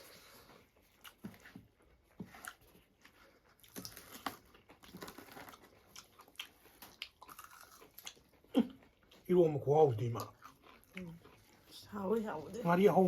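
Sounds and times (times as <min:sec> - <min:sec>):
chewing with soft crunches: 0:00.0 - 0:13.0.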